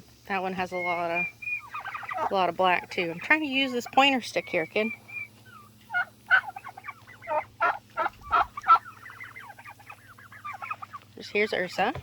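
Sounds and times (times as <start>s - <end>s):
turkeys chirping and yelping: 0.3s - 12.0s
warbling turkey notes: 0.5s - 11.1s.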